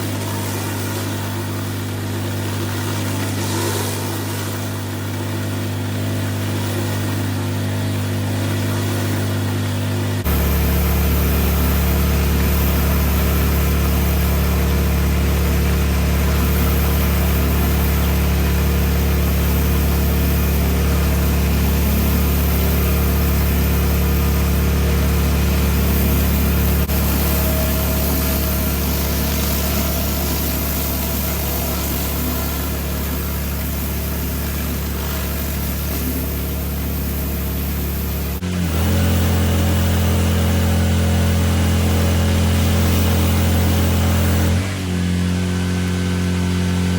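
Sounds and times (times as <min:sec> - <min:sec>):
high-pressure water jet hissing: 0:00.0 - 0:08.1, 0:10.3 - 0:45.0
pressure washer engine drone: 0:00.0 - 0:46.9.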